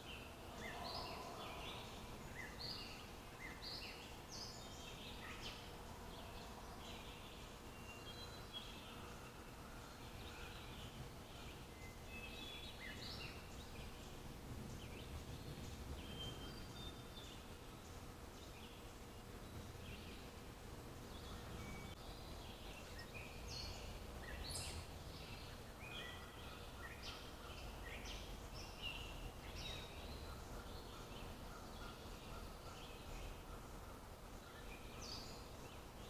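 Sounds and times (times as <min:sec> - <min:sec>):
faint low background noise: 0:00.0 - 0:36.0
wild birds chirping: 0:00.0 - 0:36.0.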